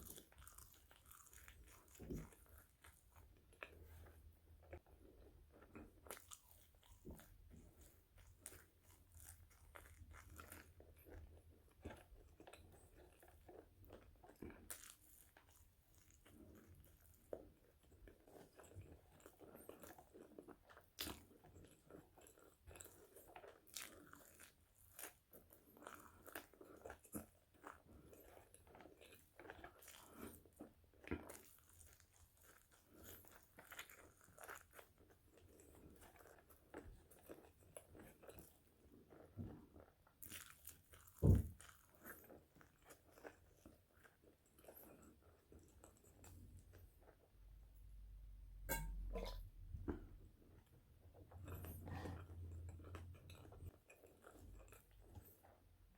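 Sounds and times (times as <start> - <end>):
crunching and chewing fries: 0.0 - 48.9, 49.5 - 55.9.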